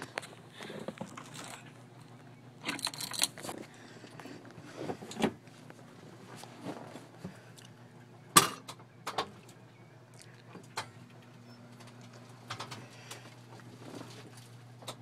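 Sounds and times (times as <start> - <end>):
faint electric motor hum: 0.0 - 15.0.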